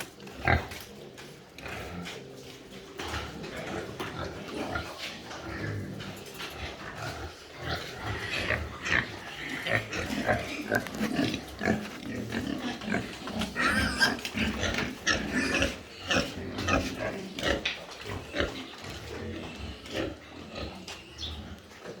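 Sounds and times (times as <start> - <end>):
pigs grunting: 0.0 - 22.0.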